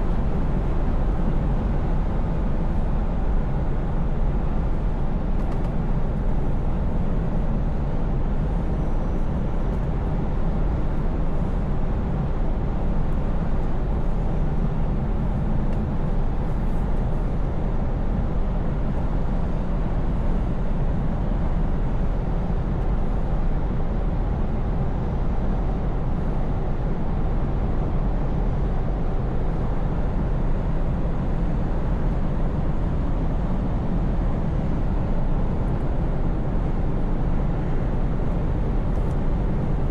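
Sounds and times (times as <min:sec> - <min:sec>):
rushing road noise: 0:00.0 - 0:39.9.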